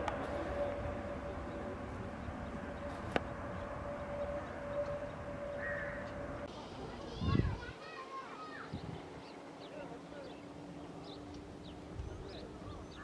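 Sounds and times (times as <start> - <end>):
distant jet engines droning: 0.0 - 13.0.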